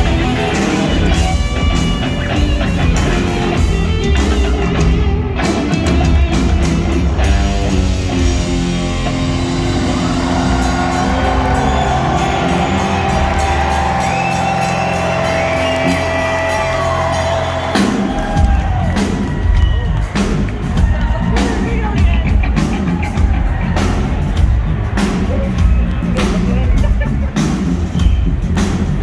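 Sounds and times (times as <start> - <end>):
crowd whooping and cheering: 0.0 - 4.8, 7.1 - 29.0
live rock band playing: 0.0 - 29.0.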